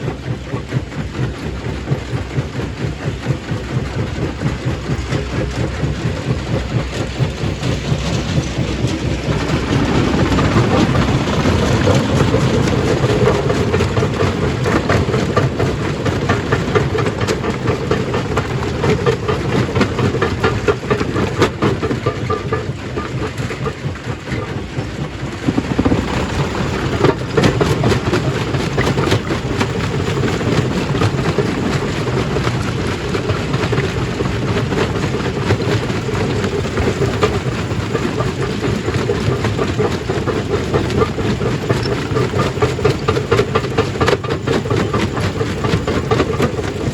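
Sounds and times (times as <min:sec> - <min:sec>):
stone crushing machine running: 0:00.0 - 0:46.9.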